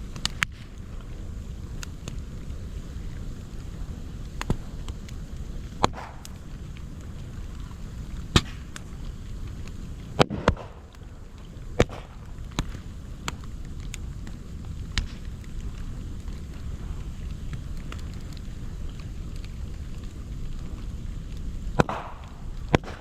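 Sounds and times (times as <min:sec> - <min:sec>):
fire cracks and pops: 0:00.0 - 0:23.0
fire rushing: 0:00.0 - 0:23.0.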